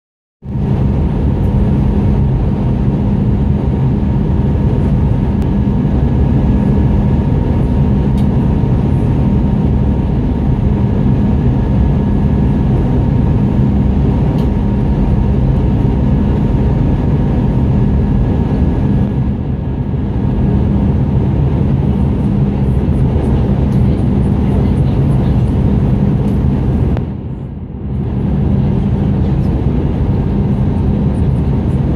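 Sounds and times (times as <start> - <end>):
constant hum: 0.4 - 31.9
jet engine drone: 0.4 - 31.9
rushing airflow: 0.4 - 31.9.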